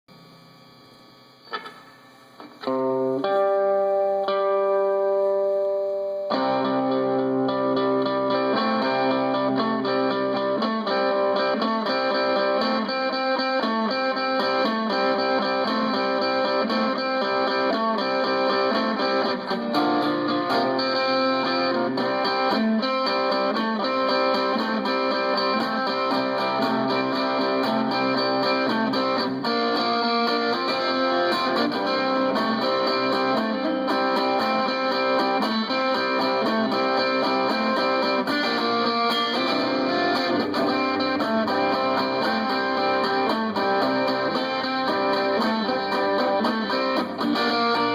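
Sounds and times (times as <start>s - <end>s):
guitar playing chords: 1.4s - 47.9s.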